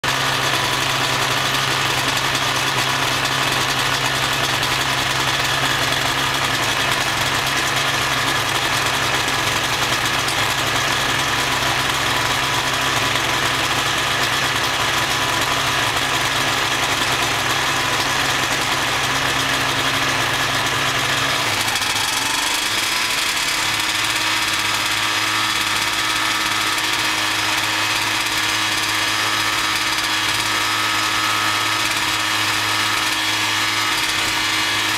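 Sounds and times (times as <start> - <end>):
aircraft engine idling: 0.0 - 34.9.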